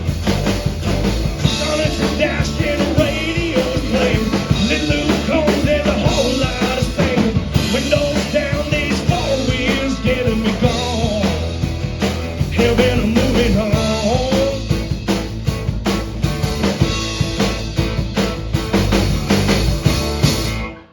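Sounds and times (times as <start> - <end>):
drum kit hits: 0.0 - 20.7
rock and roll band playing: 0.0 - 20.9.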